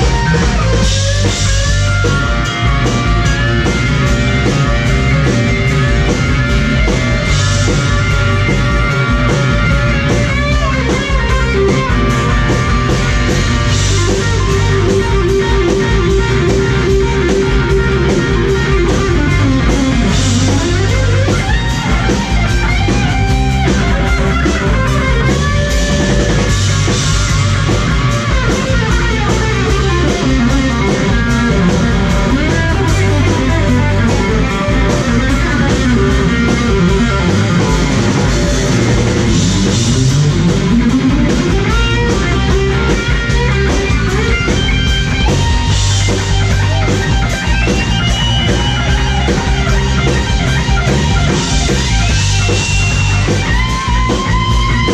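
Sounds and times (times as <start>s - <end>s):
drum kit: 0.0s - 54.9s
electric guitar lead: 0.0s - 54.9s.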